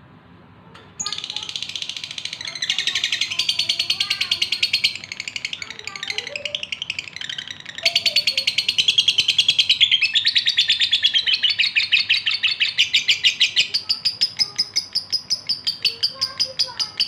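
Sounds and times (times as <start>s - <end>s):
lovebird shrill chirps: 1.0s - 17.0s.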